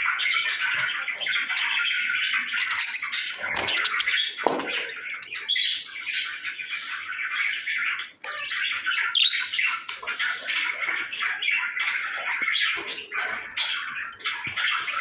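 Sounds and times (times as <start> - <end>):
parrots chattering and squawking: 0.0 - 15.0.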